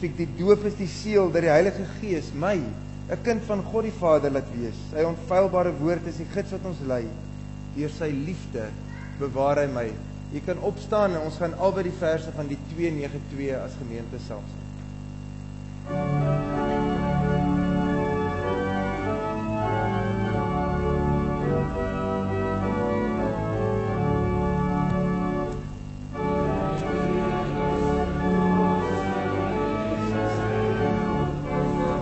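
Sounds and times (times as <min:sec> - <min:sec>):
church organ playing hymn chords: 0:00.0 - 0:08.6, 0:09.3 - 0:32.0.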